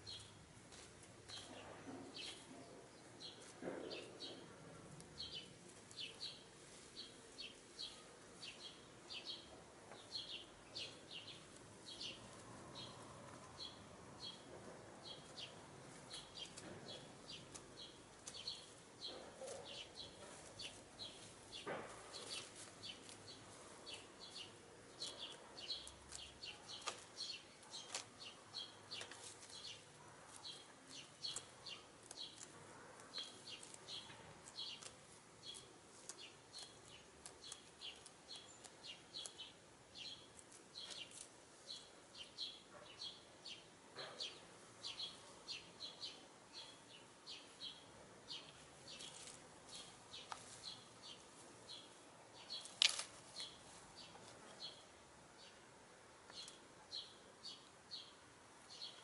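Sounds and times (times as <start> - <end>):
small bird chirping: 0.0 - 0.4, 5.2 - 55.6, 56.3 - 59.0.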